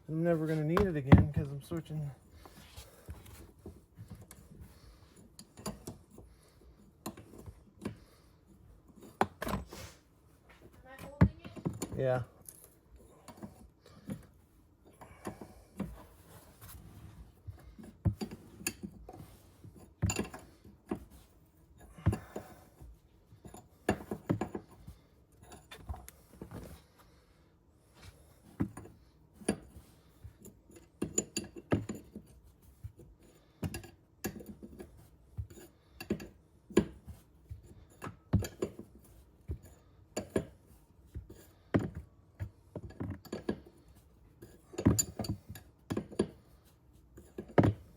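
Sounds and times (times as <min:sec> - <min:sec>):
tools and metal parts clinking: 0:05.1 - 0:09.6, 0:11.4 - 0:16.6, 0:17.5 - 0:26.8, 0:28.4 - 0:47.9.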